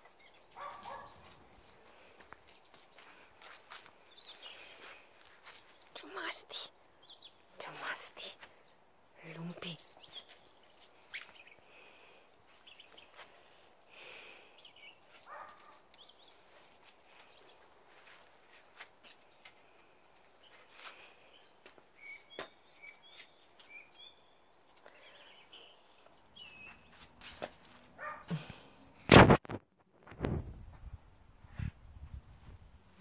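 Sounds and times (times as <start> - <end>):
faint bird chirps: 0.0 - 27.1.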